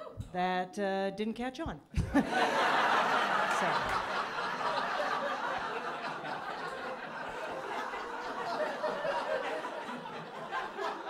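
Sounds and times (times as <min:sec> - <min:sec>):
audience laughing: 0:02.0 - 0:11.0.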